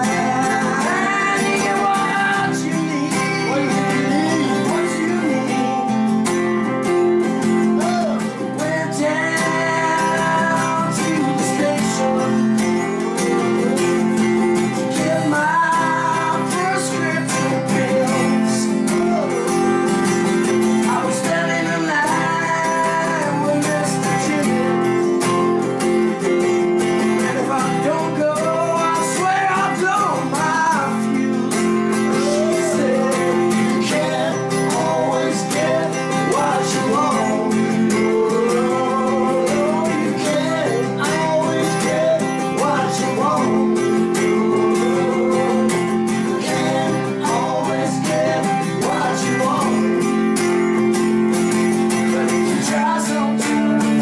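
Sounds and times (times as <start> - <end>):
acoustic guitar strumming: 0.0 - 54.0
electric guitar playing: 0.0 - 54.0.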